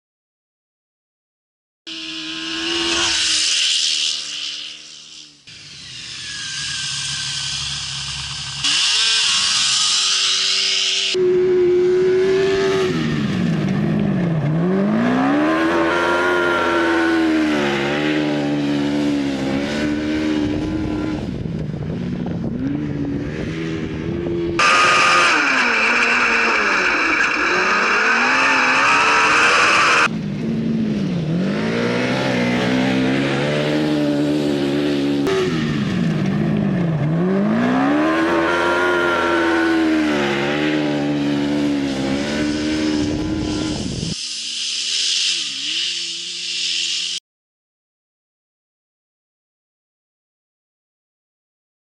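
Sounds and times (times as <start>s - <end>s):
high steady engine note: 1.9s - 3.7s, 4.3s - 47.2s
buggy engine revving: 1.9s - 44.2s.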